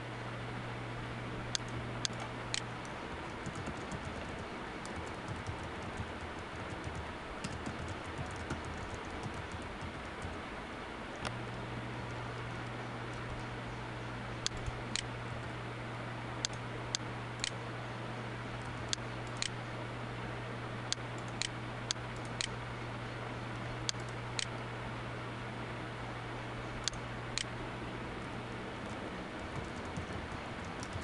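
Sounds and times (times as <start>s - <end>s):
low electrical hum and hiss: 0.0s - 31.0s.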